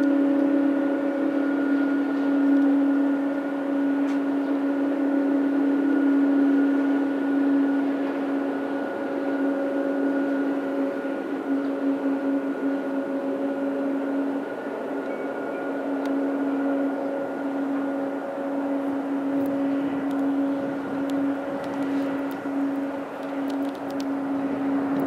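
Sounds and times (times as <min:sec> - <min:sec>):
high whine: 0:00.0 - 0:25.0
jet aircraft drone: 0:00.0 - 0:25.0.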